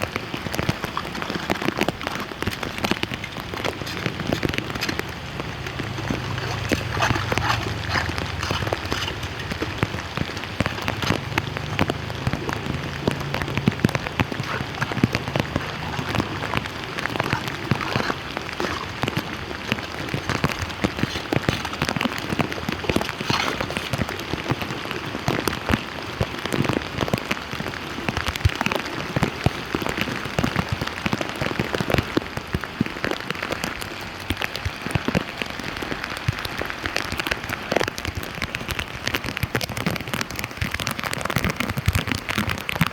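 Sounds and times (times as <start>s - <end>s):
close raindrop impacts: 0.0s - 42.9s
rain falling on flooded street: 0.0s - 42.9s.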